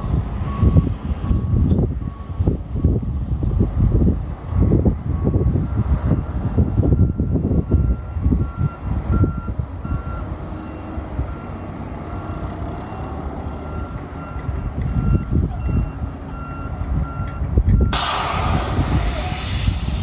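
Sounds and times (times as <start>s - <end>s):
truck backup alarm beeping: 0.0s - 18.2s
diesel engine rumble: 0.0s - 20.0s.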